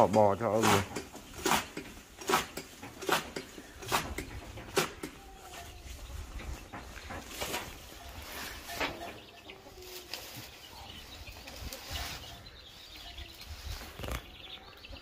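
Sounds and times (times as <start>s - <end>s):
leafy fodder rustling and crackling: 0.0s - 14.7s.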